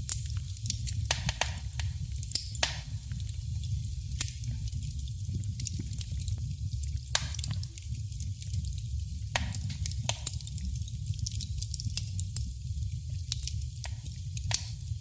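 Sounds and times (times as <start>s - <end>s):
low rumble of flame: 0.0s - 15.0s
wood fire crackling and popping: 0.0s - 15.0s.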